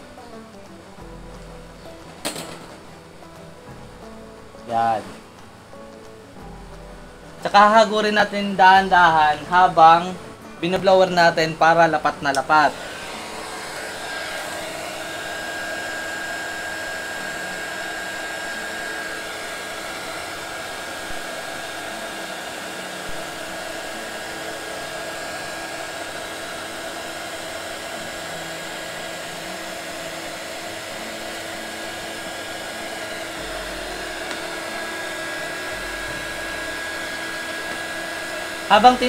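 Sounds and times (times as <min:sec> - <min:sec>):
heat gun blowing with high whine: 0:07.4 - 0:39.0.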